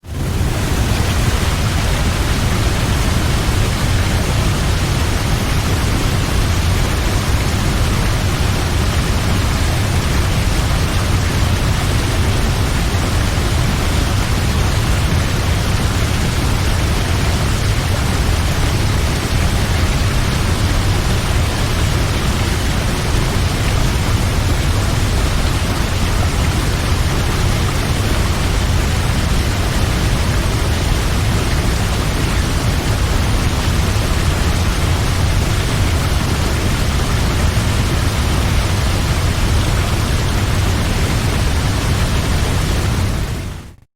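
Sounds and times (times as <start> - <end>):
waterfall rushing: 0.0 - 43.7.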